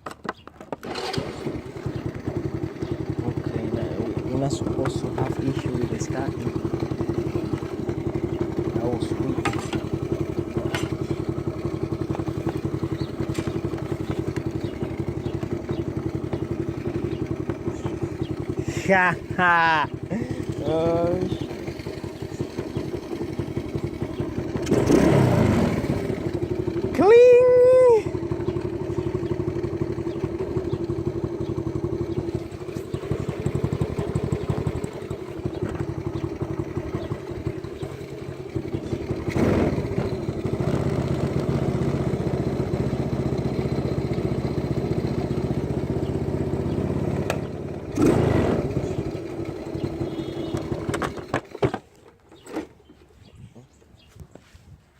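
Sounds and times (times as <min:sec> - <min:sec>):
small motorbike engine idling: 0:00.0 - 0:54.4
engine revving: 0:00.8 - 0:51.5.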